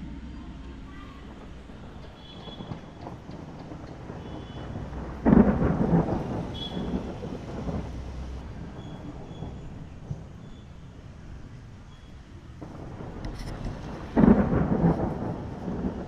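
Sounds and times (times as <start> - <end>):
thunder clap and rumble: 0.0 - 16.0.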